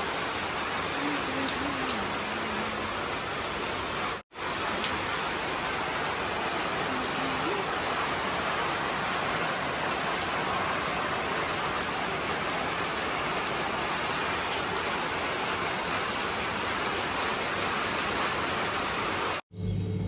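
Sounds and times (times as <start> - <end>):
rain on roofs: 0.0 - 19.4.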